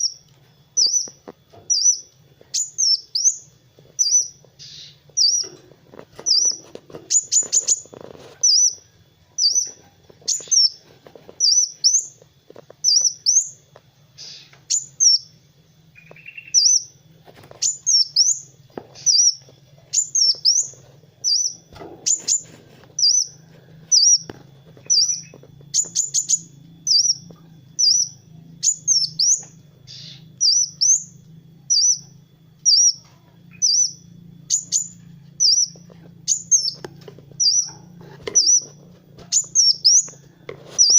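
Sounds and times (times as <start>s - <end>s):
bird chirping and twittering: 0.0s - 40.9s
faint low hum: 0.0s - 40.9s.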